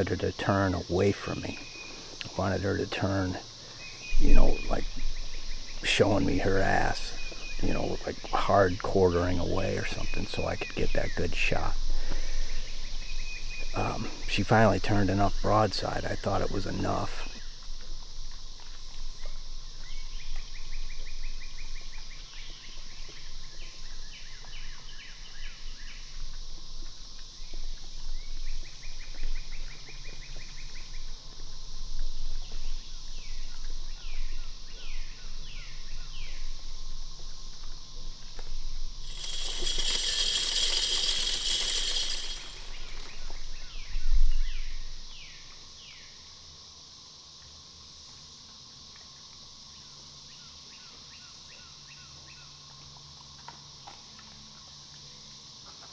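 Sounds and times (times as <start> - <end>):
insect chorus: 0.0 - 55.9.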